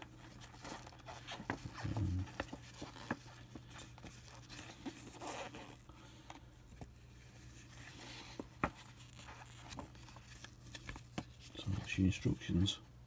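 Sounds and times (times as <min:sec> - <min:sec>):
paper pages rustling: 0:00.0 - 0:12.4.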